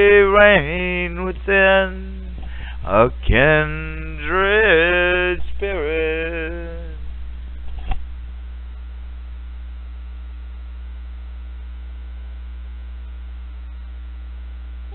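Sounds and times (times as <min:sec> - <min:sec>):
low electrical mains hum: 0:00.0 - 0:14.9.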